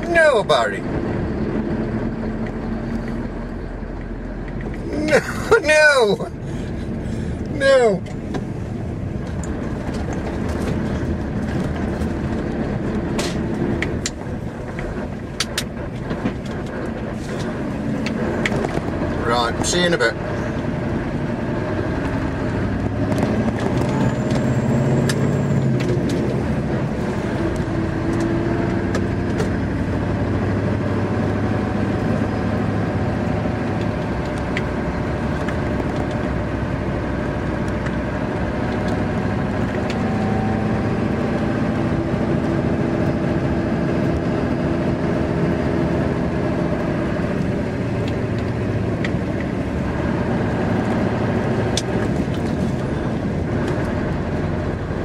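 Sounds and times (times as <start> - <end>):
road noise: 0.0 - 55.0
truck engine droning: 0.0 - 55.0.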